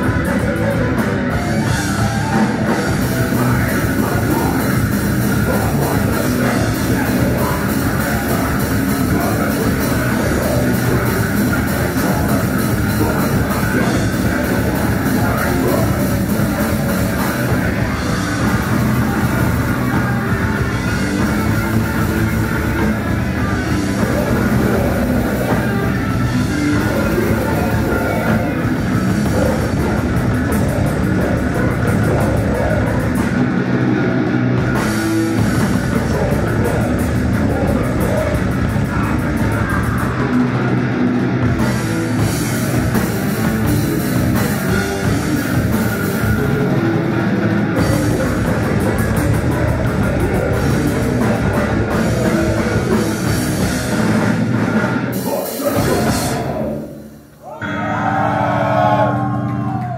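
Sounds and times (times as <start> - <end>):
distorted electric guitars and bass: 0.0 - 59.9.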